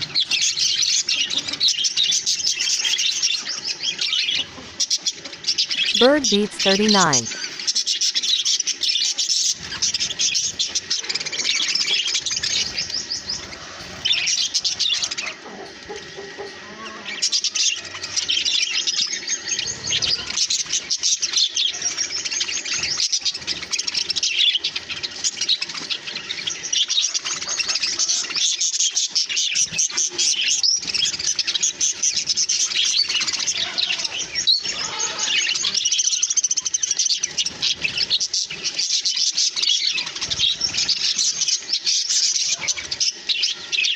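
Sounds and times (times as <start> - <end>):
budgerigars chirping: 7.3 - 43.9.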